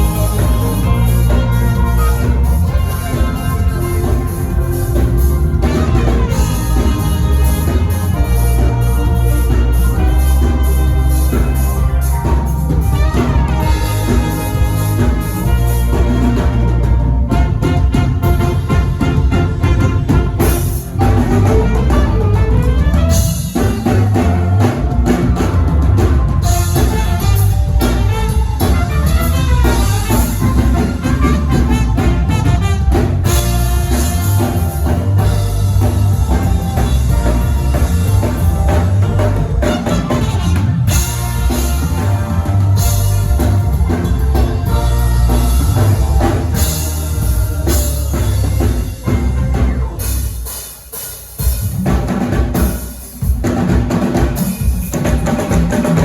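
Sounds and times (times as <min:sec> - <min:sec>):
band music: 0:00.0 - 0:56.0
drum kit: 0:00.0 - 0:56.0.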